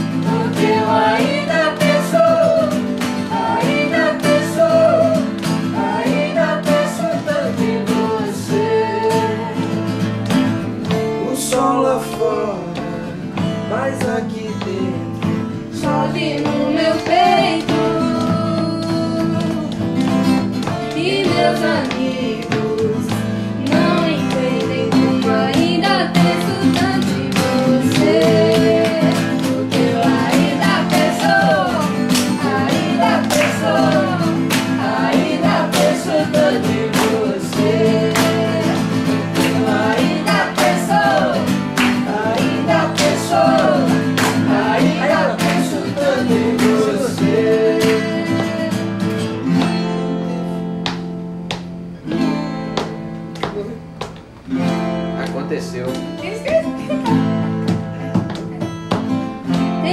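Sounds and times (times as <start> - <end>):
voices singing pop melody: 0.0 - 53.8, 55.4 - 59.9
acoustic guitars strumming: 0.0 - 59.9.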